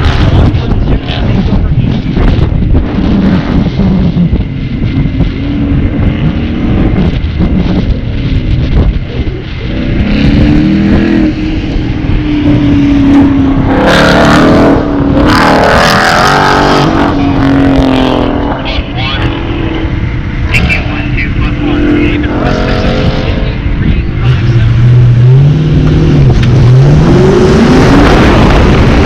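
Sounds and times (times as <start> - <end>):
car engine running: 0.0 - 29.0
rough rush of noise: 0.0 - 29.0
wind rumble on microphone: 0.0 - 29.0.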